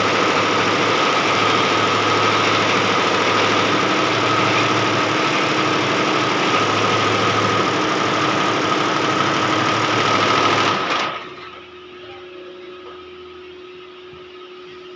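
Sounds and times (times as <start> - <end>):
embroidery machine running: 0.0 - 14.9
high machine whine: 0.0 - 14.9.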